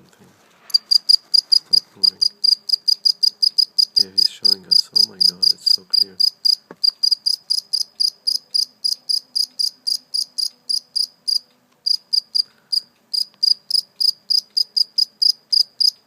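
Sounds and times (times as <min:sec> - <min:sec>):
cricket chirping: 0:00.7 - 0:16.0.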